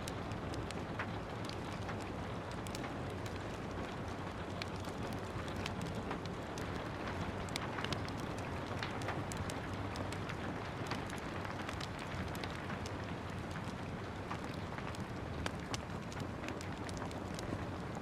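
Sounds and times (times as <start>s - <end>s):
steady rain: 0.0s - 18.0s
wood fire crackling: 0.0s - 18.0s.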